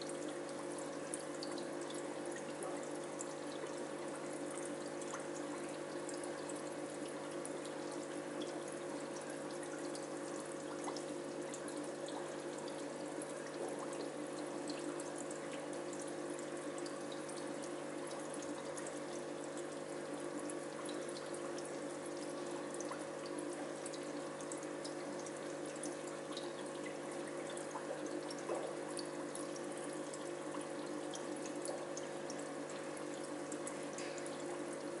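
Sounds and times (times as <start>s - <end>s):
aquarium pump humming: 0.0s - 35.0s
water trickling and dripping: 0.0s - 35.0s.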